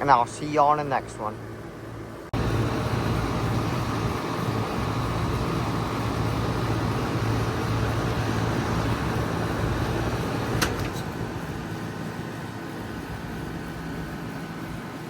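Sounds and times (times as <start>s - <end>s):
condenser fan noise: 0.0s - 15.0s
heat pump compressor hum: 0.0s - 15.0s.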